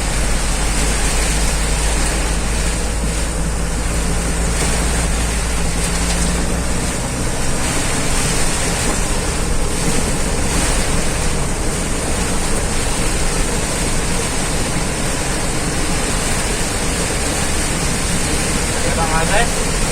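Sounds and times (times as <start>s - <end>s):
heavy rain in strong wind: 0.0s - 19.9s.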